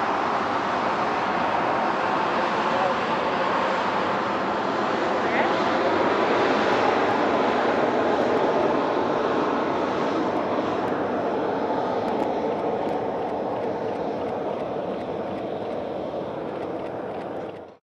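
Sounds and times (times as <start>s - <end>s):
jet engines rushing: 0.0s - 17.8s.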